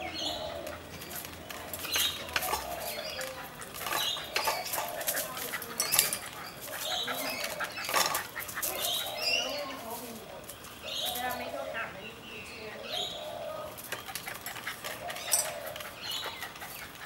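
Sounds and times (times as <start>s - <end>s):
dog noises: 0.0s - 11.6s, 13.0s - 17.0s
tricycle knocking and rattling: 0.0s - 11.8s, 13.6s - 17.0s.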